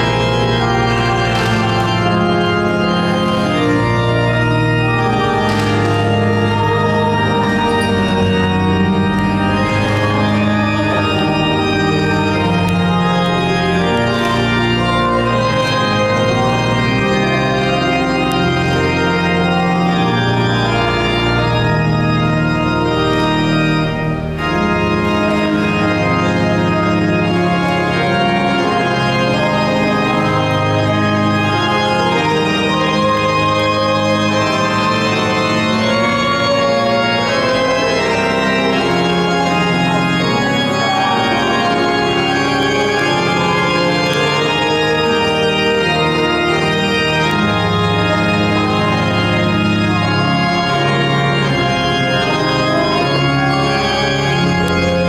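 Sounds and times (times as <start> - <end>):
pipe organ playing sustained chords: 0.0 - 55.0.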